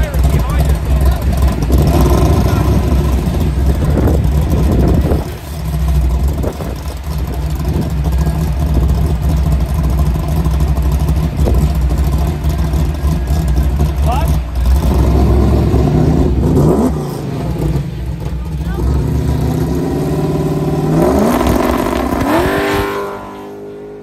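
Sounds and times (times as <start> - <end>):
car engine idling loudly: 0.0 - 24.0.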